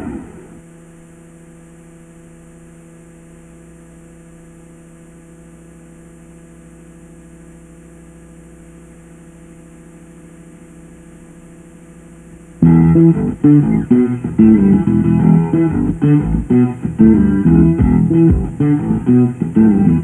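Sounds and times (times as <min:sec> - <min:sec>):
electrical mains hum: 0:00.0 - 0:20.0
faint tape hiss: 0:00.0 - 0:20.0.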